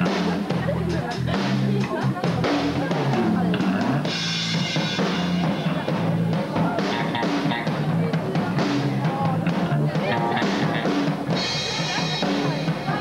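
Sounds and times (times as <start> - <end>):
drum kit: 0.0 - 13.0
electric bass guitar low notes: 0.0 - 13.0.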